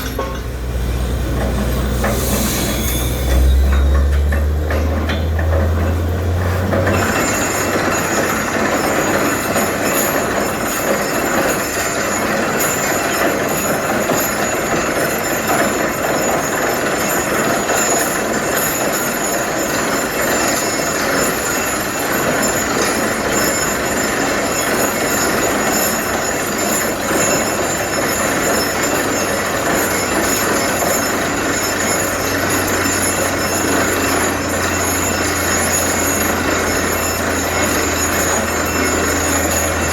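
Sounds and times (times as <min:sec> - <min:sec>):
drilling rig rattling and hissing: 0:00.0 - 0:39.9.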